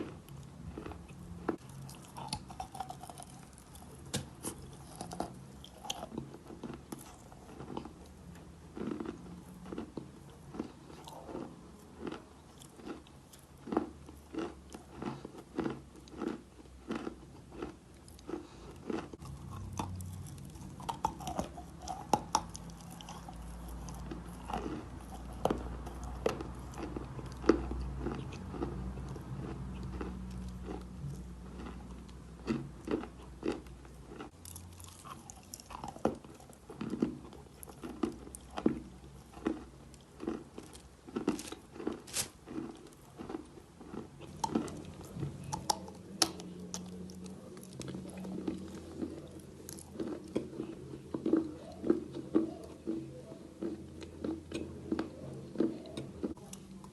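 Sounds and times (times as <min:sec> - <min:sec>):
chalk crunching when chewed: 0:00.0 - 0:56.9.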